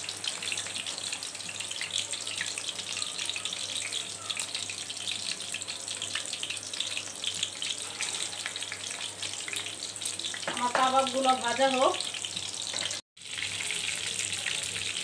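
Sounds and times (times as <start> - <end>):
patties sizzling in hot oil: 0.0 - 15.0.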